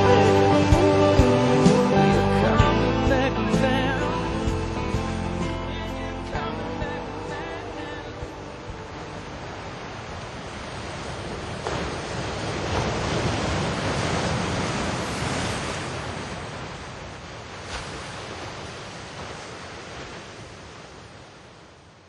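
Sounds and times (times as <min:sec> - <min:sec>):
ocean waves washing: 0:00.0 - 0:22.0.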